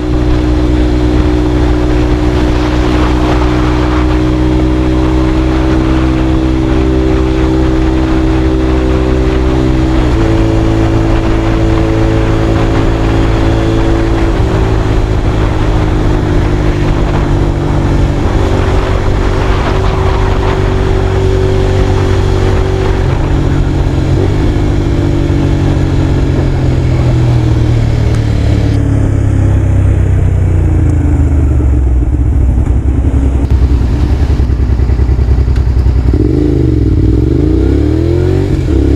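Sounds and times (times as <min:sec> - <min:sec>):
motorcycle exhaust note: 0:00.0 - 0:38.9.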